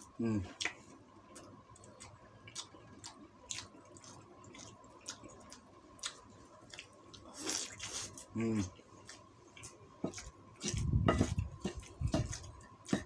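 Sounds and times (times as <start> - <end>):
wet chewing mouth sounds: 0.5 - 13.0.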